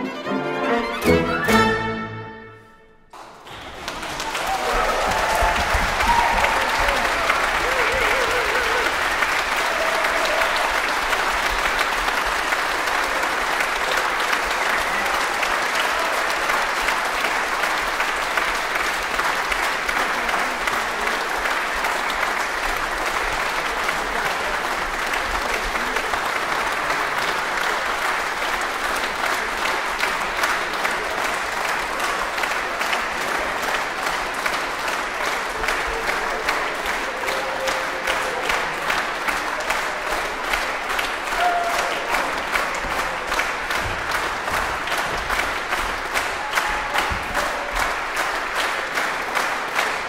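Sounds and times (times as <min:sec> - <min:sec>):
audience applauding: 0:03.1 - 0:50.0.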